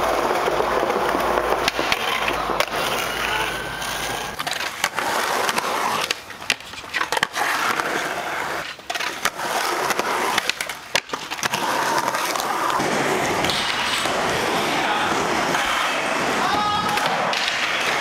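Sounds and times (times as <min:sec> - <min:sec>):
skateboard clacking: 0:00.0 - 0:18.0
skateboard wheels rolling on concrete: 0:00.0 - 0:18.0.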